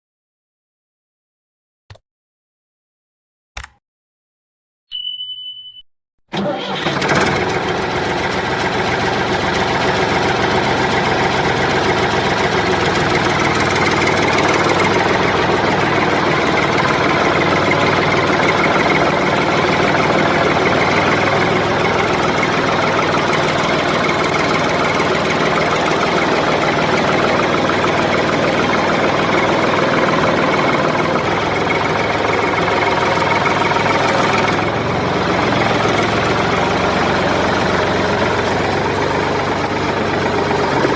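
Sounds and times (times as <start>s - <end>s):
tractor engine running: 6.3s - 40.9s.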